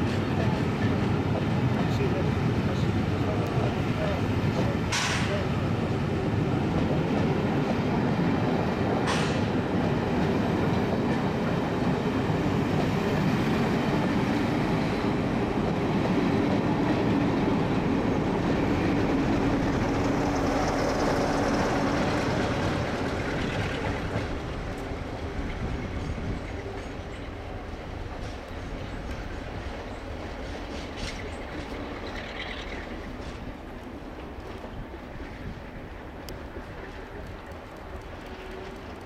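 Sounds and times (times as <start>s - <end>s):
train coaches rumbling past: 0.0s - 39.0s.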